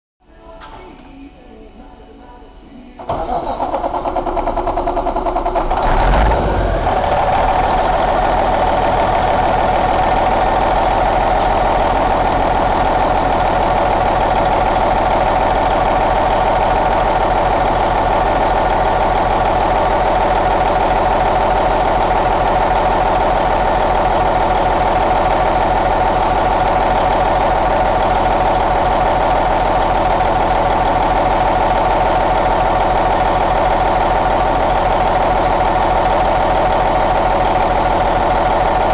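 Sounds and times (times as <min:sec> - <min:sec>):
diesel engine idling: 0:03.0 - 0:38.9.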